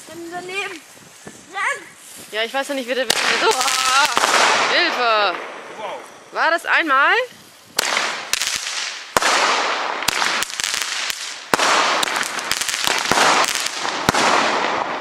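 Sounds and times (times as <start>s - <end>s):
firework cracks: 0.0s - 15.0s.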